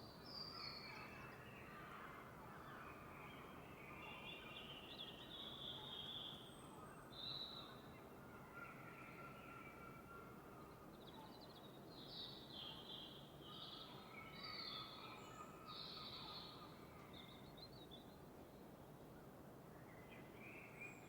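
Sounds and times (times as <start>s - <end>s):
faint birdsong chirping: 0.0s - 21.0s.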